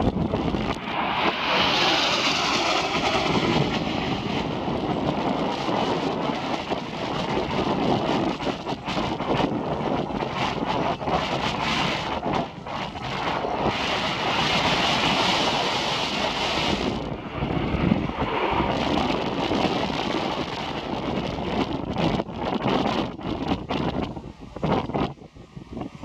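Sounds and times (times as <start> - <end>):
jet engine roar: 0.0 - 26.0
wind buffeting microphone: 0.0 - 26.0.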